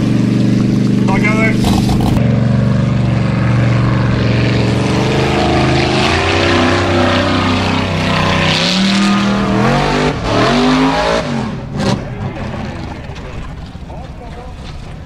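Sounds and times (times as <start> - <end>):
buggy engine revving hard: 0.0 - 13.2.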